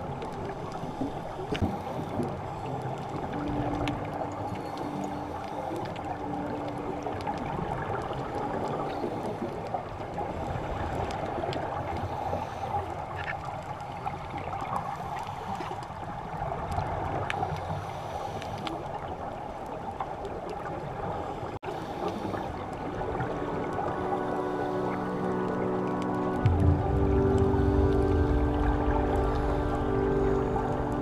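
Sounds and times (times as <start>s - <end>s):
muffled underwater rushing and gurgling: 0.0s - 31.0s.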